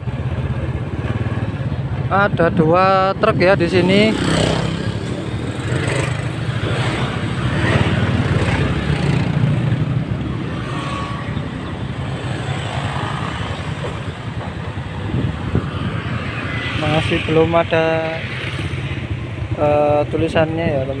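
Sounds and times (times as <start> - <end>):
scooter engines passing by: 0.0 - 21.0.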